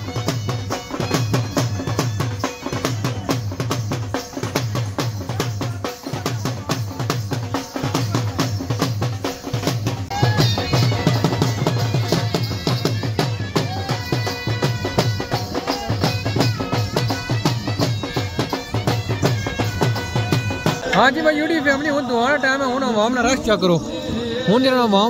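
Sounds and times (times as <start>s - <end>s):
dhol drums beating: 0.0s - 24.0s.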